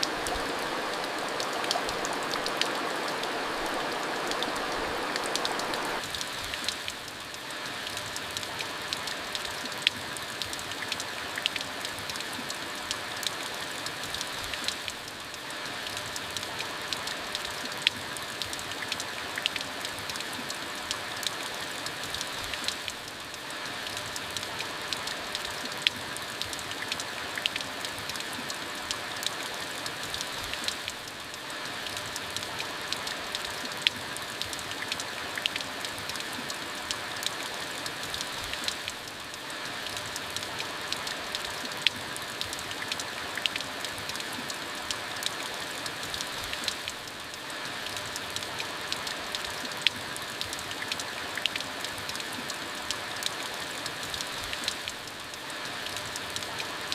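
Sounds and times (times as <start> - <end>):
raindrops ticking on a surface: 0.0 - 56.9
steady rain: 0.0 - 56.9.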